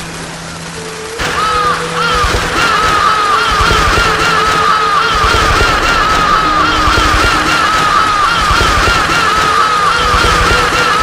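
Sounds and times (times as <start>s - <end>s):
steady rush of noise: 0.0s - 11.0s.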